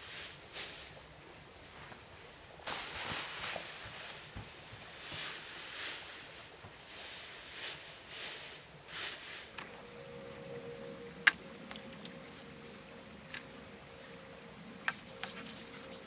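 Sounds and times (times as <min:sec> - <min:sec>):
dry grass rustling: 0:00.0 - 0:16.0.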